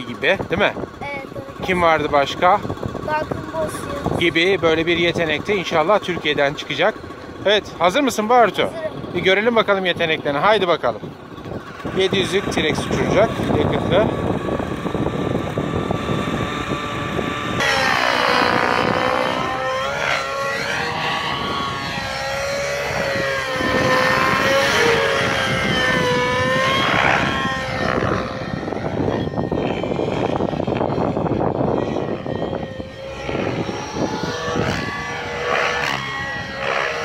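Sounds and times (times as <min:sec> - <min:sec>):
model helicopter rotor whine: 0:00.0 - 0:37.0.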